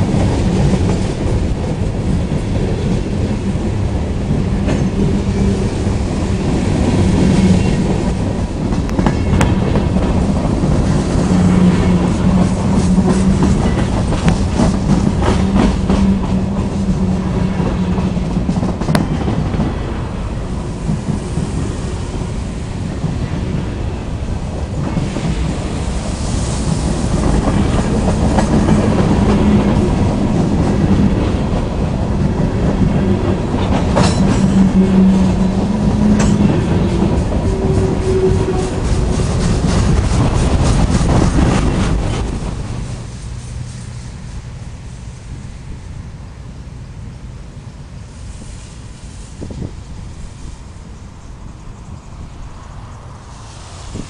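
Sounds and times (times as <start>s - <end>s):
freight train wheels clicking: 0.0s - 46.0s.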